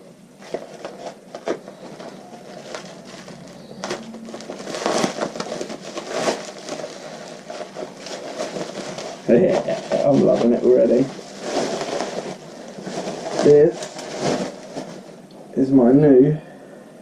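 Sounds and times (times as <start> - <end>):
packing paper rustling: 0.0 - 15.3.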